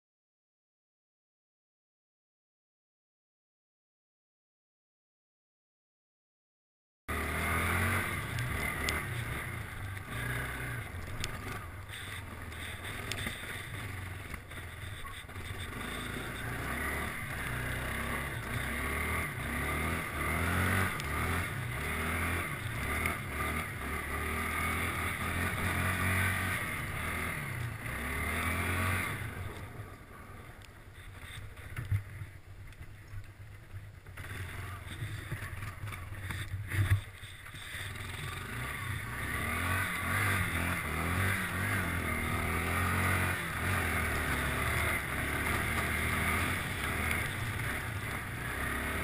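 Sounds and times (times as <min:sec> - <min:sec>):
atv engine revving: 0:07.1 - 0:49.0.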